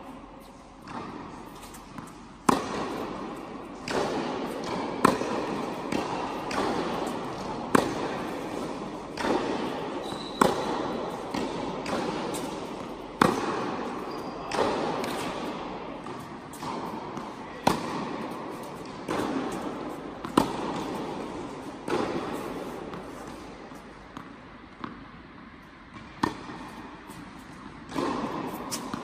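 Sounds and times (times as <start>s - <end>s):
tennis ball struck by racket: 0.8s - 25.2s, 25.9s - 29.0s.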